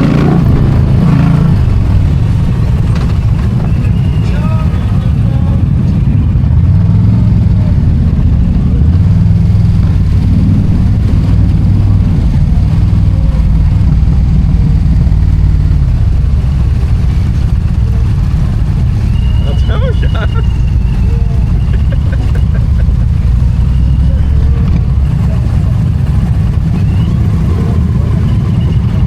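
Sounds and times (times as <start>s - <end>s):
motorcycle engine revving: 0.0s - 29.0s
wind rumble on microphone: 0.0s - 29.0s.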